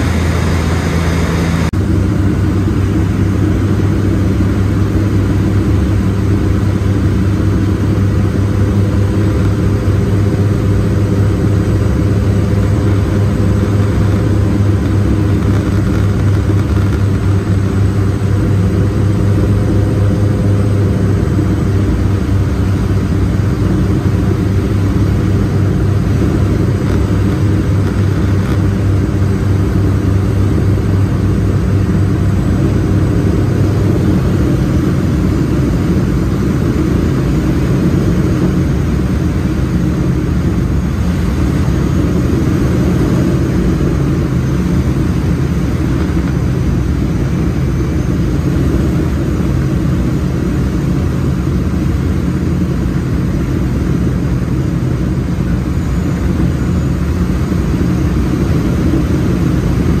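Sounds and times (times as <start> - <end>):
turboprop cabin drone: 0.0 - 60.0.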